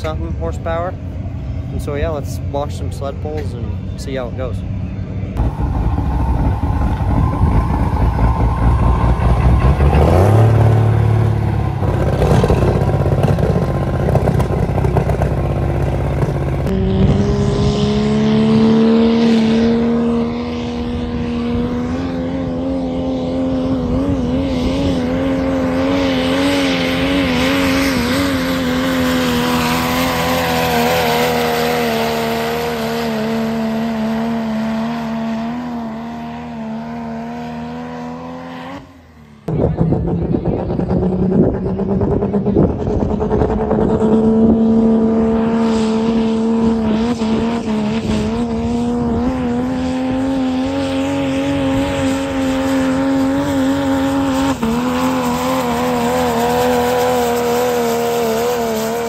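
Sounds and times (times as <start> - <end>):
diesel engines rumbling: 0.0 - 59.0
engine at high revs: 0.0 - 59.0.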